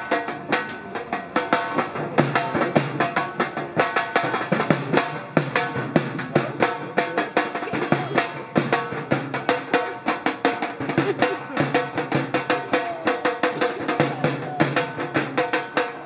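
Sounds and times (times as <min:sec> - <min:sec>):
fast steady drumming: 0:00.0 - 0:16.0.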